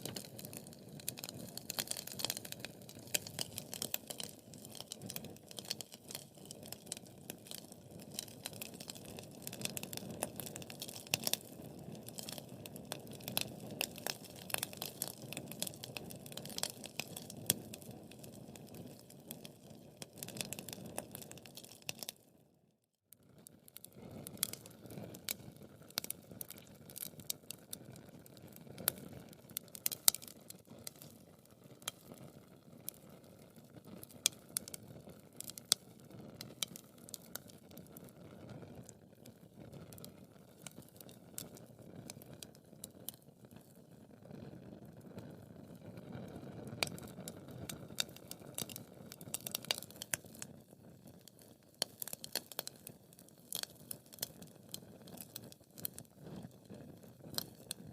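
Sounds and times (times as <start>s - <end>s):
wood fire crackling and popping: 0.0s - 22.2s, 23.4s - 57.9s.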